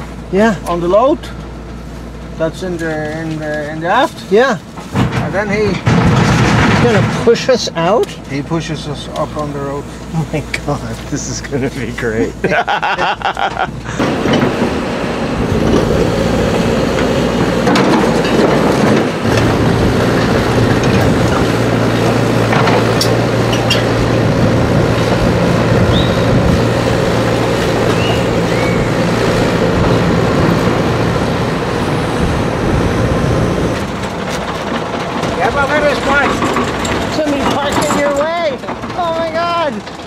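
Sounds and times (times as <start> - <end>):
heavy diesel engines droning: 0.0 - 40.0.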